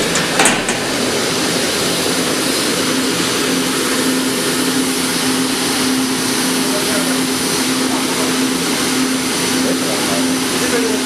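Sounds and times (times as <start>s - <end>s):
ball mill machine droning: 0.0s - 11.0s.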